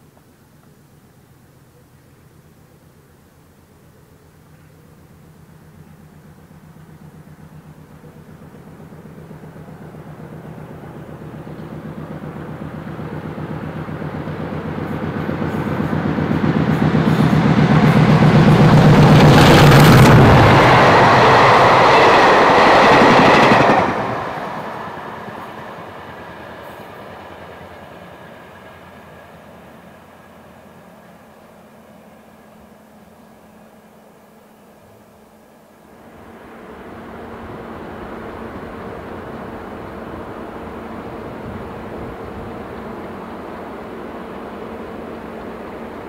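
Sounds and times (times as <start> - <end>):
diesel locomotives working hard: 0.0 - 46.0
rolling noise of coaches: 0.0 - 46.0.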